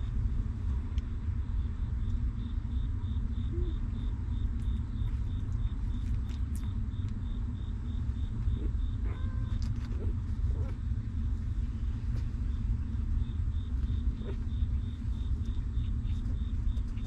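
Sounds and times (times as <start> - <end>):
steady low rumble: 0.0 - 17.0
insect chirping: 1.2 - 17.0.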